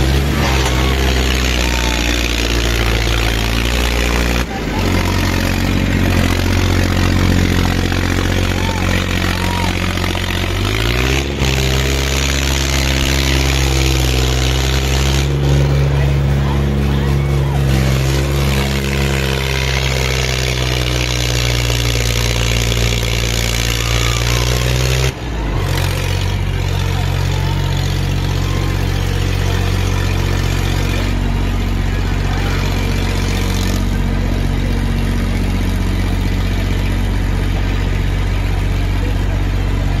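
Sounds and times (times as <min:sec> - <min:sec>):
tractor diesel engines running hard: 0:00.0 - 0:40.0.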